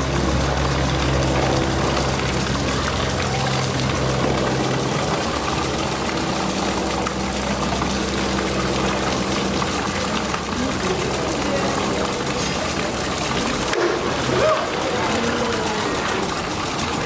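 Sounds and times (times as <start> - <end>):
low mechanical hum: 0.0 - 17.0
rushing water: 0.0 - 17.0.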